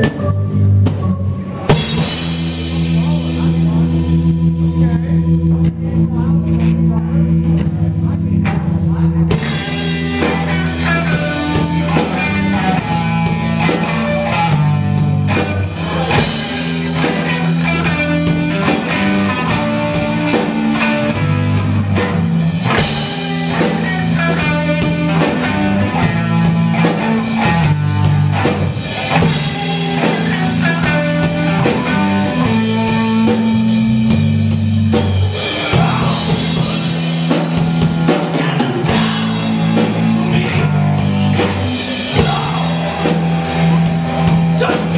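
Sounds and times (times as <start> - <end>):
drum kit: 0.0 - 44.9
electric bass: 0.0 - 44.9
electric guitar: 0.0 - 44.9.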